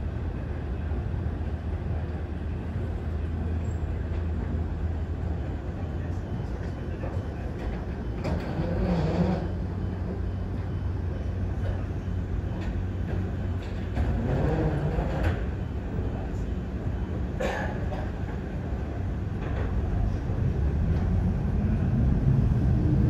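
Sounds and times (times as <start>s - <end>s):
vehicle low rumble: 0.0s - 23.0s.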